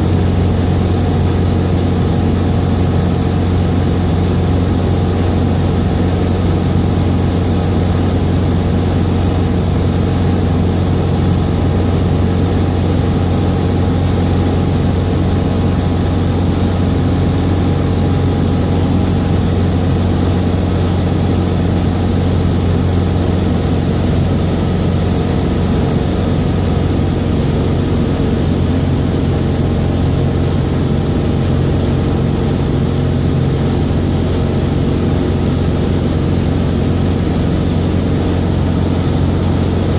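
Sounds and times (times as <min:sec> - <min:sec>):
aircraft engine droning: 0:00.0 - 0:39.9.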